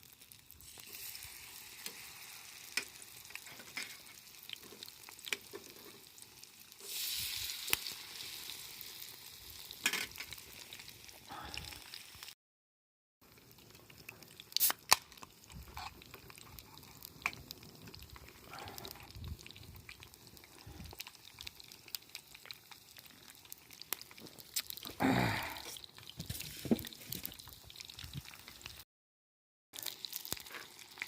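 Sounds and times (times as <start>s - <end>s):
faint oil bubbling: 0.0s - 12.3s, 13.2s - 28.8s, 29.8s - 31.0s
oil popping and crackling: 0.0s - 12.4s, 13.2s - 28.8s, 29.8s - 31.0s
rush of sizzle: 0.0s - 12.4s, 13.2s - 28.8s, 29.8s - 31.0s.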